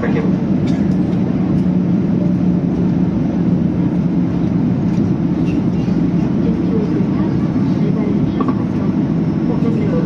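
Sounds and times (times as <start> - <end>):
jet engine and airflow drone: 0.0 - 10.0
steady low hum: 0.0 - 10.0.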